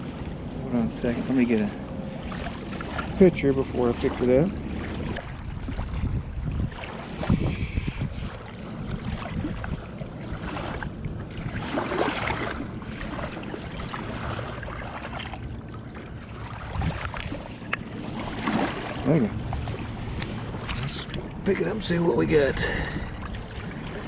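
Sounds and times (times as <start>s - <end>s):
low rumble: 0.0s - 24.0s
river water lapping at bank: 0.0s - 24.0s
wind buffeting microphone: 0.0s - 24.0s.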